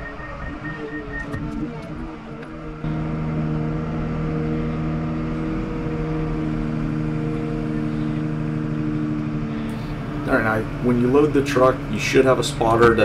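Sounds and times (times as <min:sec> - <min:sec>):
diesel engine at raised revs: 0:00.0 - 0:13.0.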